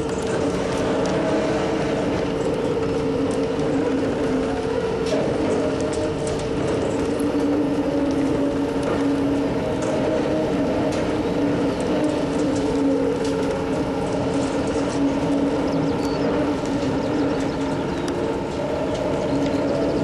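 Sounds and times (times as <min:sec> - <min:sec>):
excavator mechanical drone: 0:00.0 - 0:20.0
machinery clicks and squeaks: 0:00.0 - 0:20.0.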